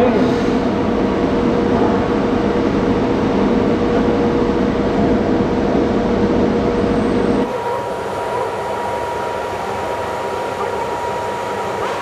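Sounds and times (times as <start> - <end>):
steady machine drone: 0.0 - 12.0.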